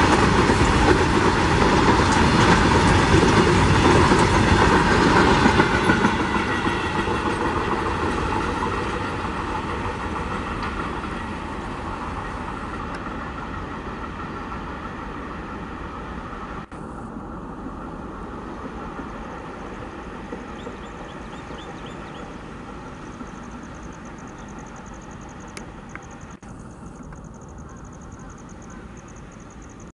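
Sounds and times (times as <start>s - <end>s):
freight train rumbling on rails: 0.0s - 29.9s.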